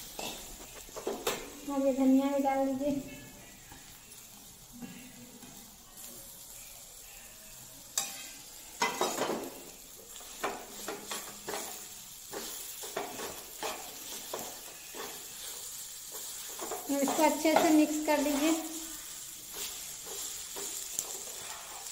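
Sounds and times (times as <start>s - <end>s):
metal spoon scraping a pan: 0.0s - 1.7s, 6.0s - 21.9s
faint sizzle: 0.0s - 21.9s.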